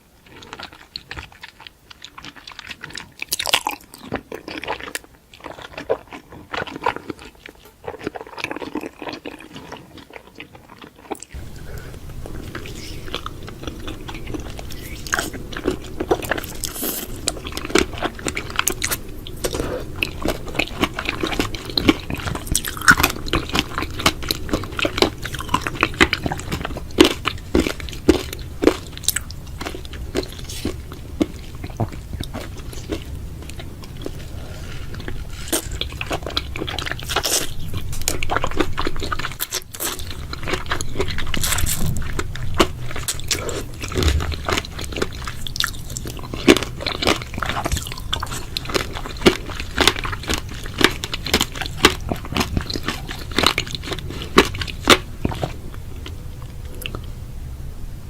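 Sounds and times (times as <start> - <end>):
person chewing crunchy food: 0.0 - 57.2.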